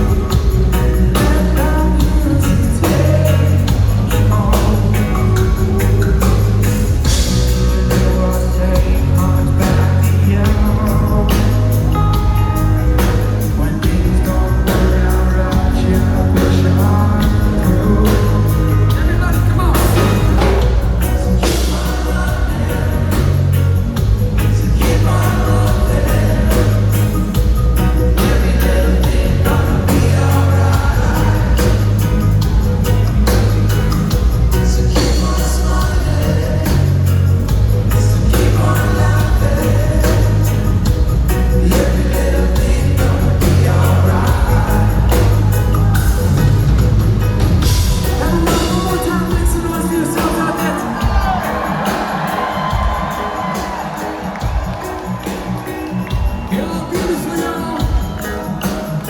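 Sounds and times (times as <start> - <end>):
bass line: 0.0 - 57.2
drum beat: 0.0 - 59.0
guitar: 0.0 - 59.0
person singing: 0.0 - 59.0.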